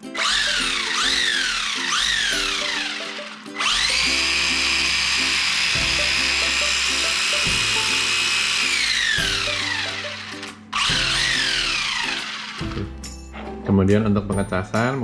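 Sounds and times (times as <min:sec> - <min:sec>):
electric motor whining: 0:00.0 - 0:13.0
background music: 0:00.0 - 0:15.0.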